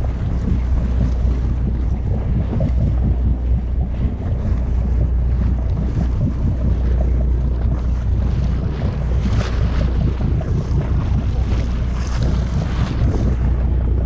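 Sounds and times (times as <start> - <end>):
boat engine rumbling: 0.0 - 14.0
wind buffeting microphone: 0.0 - 14.0.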